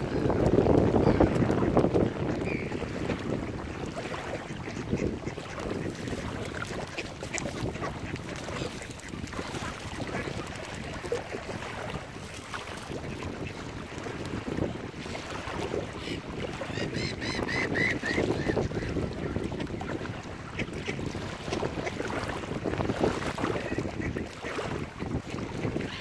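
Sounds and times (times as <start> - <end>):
water: 0.0 - 26.0
wind buffeting microphone: 0.0 - 26.0.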